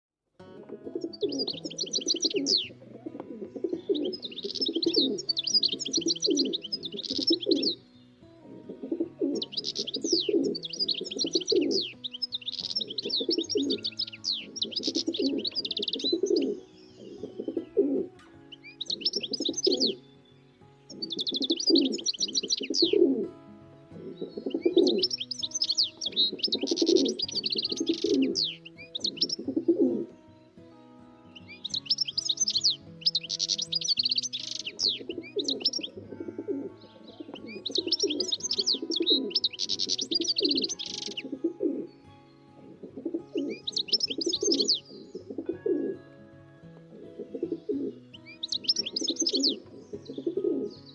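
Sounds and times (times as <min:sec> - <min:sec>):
low cooing: 0:00.6 - 0:07.8, 0:08.4 - 0:18.2, 0:19.0 - 0:20.0, 0:20.9 - 0:23.3, 0:24.0 - 0:30.1, 0:34.4 - 0:41.9, 0:42.6 - 0:46.0, 0:46.9 - 0:50.8
birds chirping: 0:00.6 - 0:50.9.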